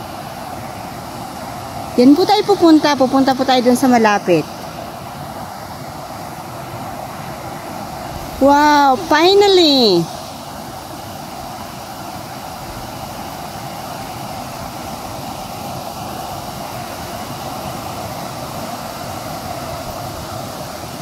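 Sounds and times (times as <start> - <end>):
waterfall roar: 0.0 - 21.0.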